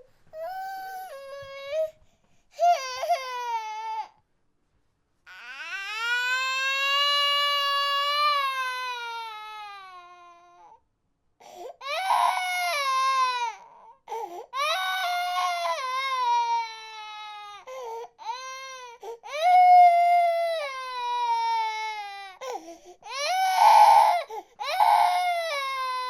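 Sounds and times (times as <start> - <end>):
infant crying: 0.4 - 2.0, 2.6 - 4.2, 5.3 - 10.8, 11.6 - 26.0.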